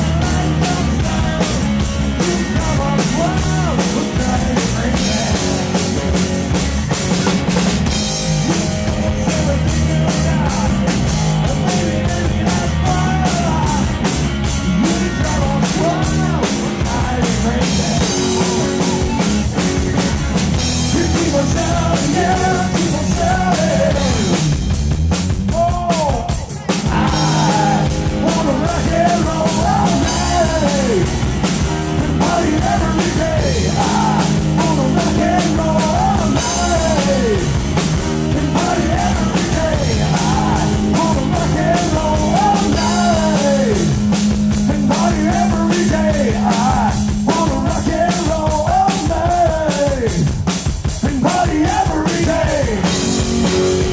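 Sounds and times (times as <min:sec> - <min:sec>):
man singing: 0:00.0 - 0:06.1, 0:08.4 - 0:24.5, 0:25.5 - 0:37.6, 0:38.2 - 0:53.1
drum kit: 0:00.0 - 0:53.9
electric guitar: 0:00.0 - 0:53.9.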